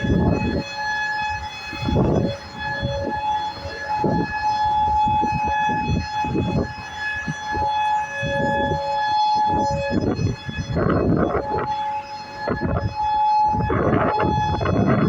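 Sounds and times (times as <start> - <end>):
outdoor warning siren tone: 0.0 - 15.0.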